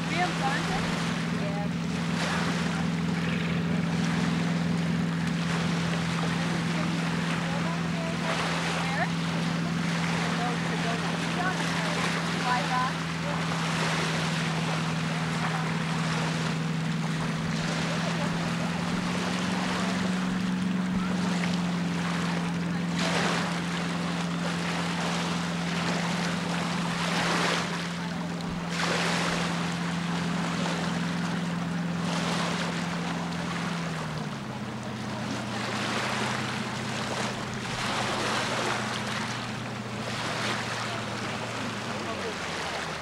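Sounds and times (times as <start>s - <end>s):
lake water at the shore: 0.0s - 43.0s
low engine drone: 0.0s - 43.0s.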